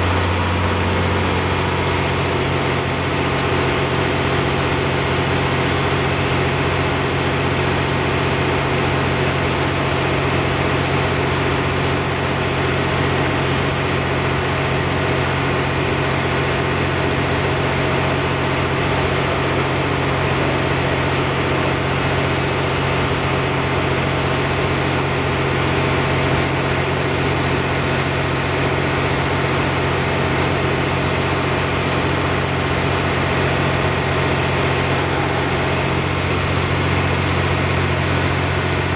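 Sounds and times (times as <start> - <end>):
diesel train engine idling: 0.0 - 38.9.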